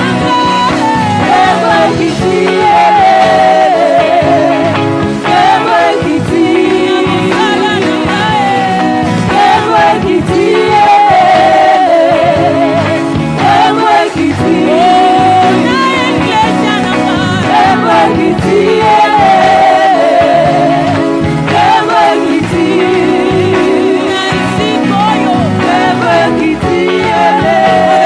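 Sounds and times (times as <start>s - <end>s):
choir voices: 0.0s - 28.0s
instrumental backing: 0.0s - 28.0s
woman singing with vibrato: 0.0s - 28.0s.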